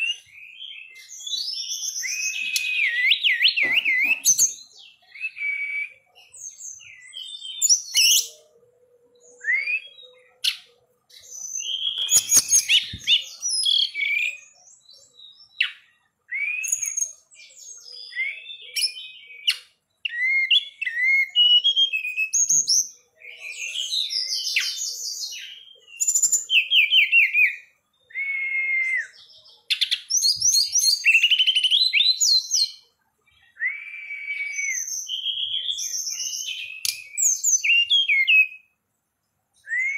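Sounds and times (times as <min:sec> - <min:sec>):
bird singing whistled phrases: 0:00.0 - 0:08.5, 0:09.2 - 0:32.8, 0:33.4 - 0:38.7, 0:39.6 - 0:39.9.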